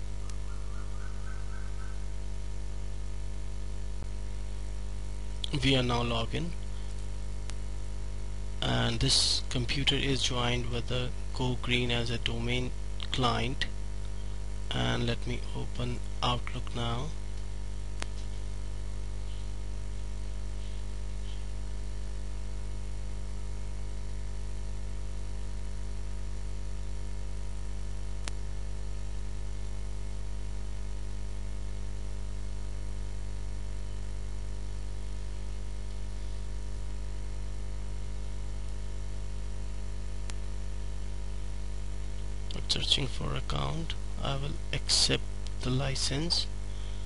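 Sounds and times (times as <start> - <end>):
electrical mains hum: 0.0 - 47.0.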